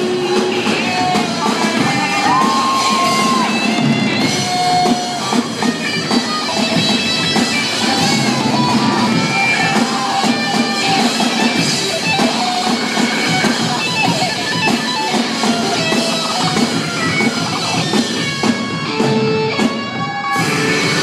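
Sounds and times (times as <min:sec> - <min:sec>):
drums: 0:00.0 - 0:21.0
electric guitar: 0:00.0 - 0:21.0.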